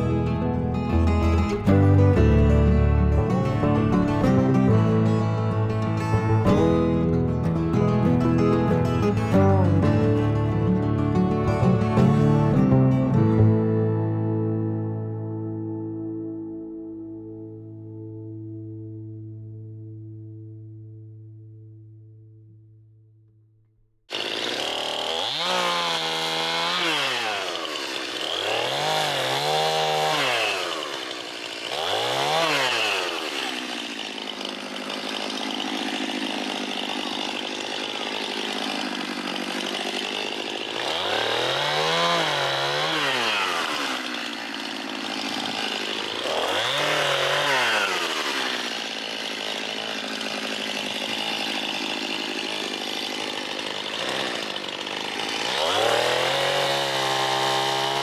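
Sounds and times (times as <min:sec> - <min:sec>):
chainsaw revving: 0:00.0 - 0:13.3, 0:24.1 - 0:58.0.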